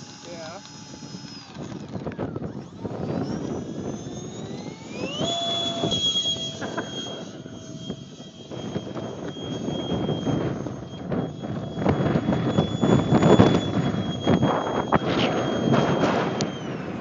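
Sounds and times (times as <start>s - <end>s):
electric ducted fan whining: 0.0s - 17.0s
wind rumble on microphone: 0.4s - 17.0s.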